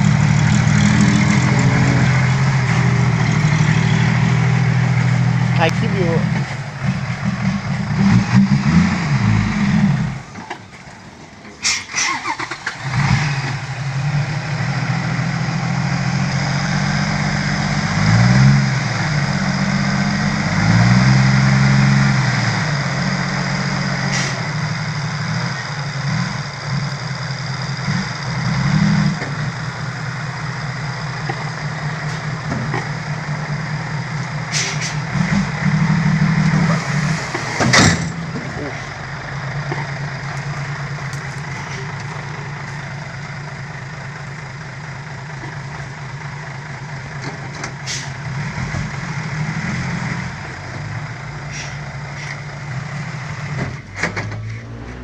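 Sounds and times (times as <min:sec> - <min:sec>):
truck engine revving: 0:00.0 - 0:55.0
truck engine starting and idling: 0:00.0 - 0:55.0.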